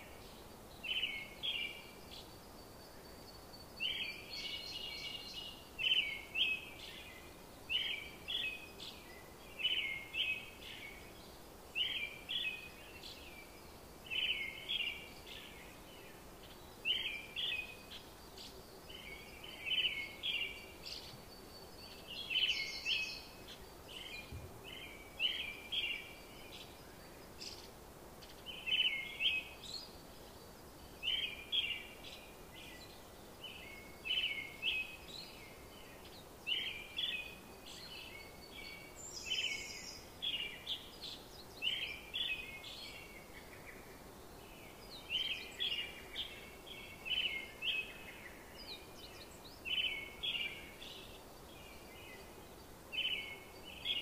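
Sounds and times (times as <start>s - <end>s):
faint background hiss: 0.0s - 54.0s
small birds chirping: 0.0s - 54.0s.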